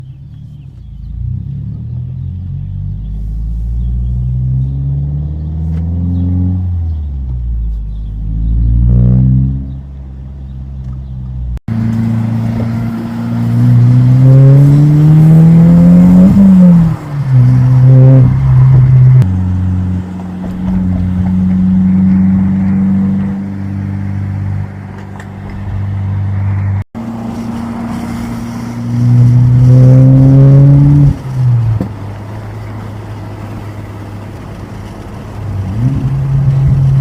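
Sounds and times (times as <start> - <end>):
car engine revving through gears: 1.0 - 9.9, 11.6 - 24.8, 25.4 - 31.9, 35.4 - 37.0.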